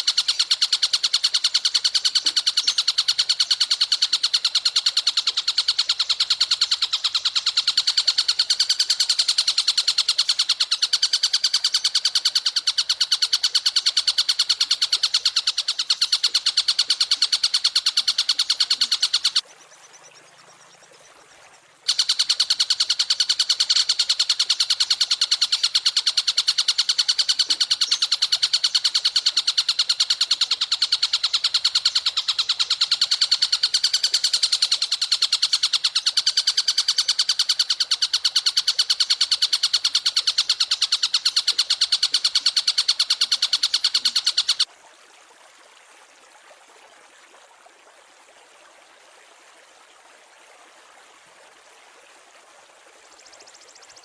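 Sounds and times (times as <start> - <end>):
songbird trilling: 0.0 - 44.7.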